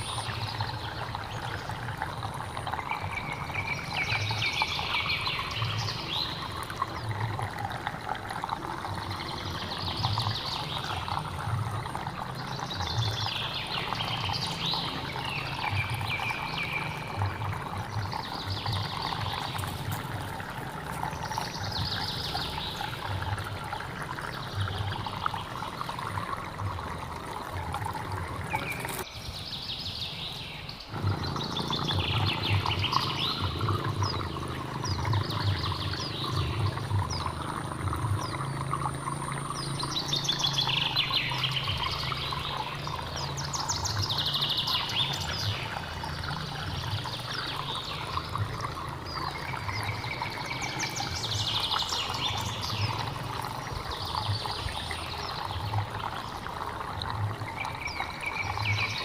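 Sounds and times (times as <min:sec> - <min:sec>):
birds chirping: 0:00.0 - 0:59.0
water trickling and splashing: 0:00.0 - 0:59.0.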